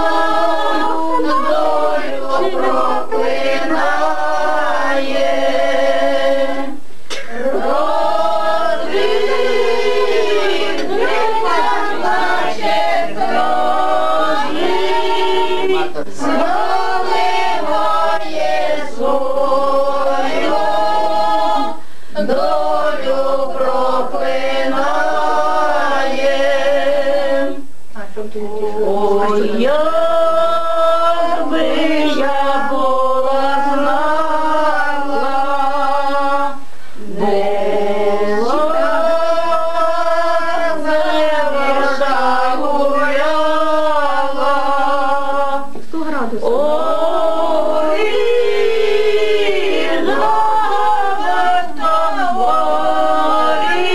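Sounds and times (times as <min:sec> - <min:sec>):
voices singing together: 0:00.0 - 0:53.9.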